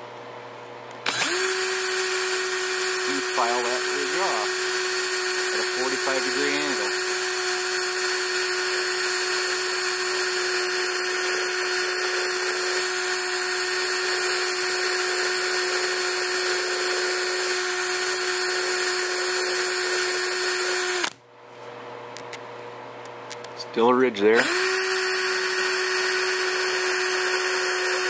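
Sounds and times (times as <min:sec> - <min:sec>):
cordless drill running: 0:01.0 - 0:21.2, 0:24.4 - 0:28.0.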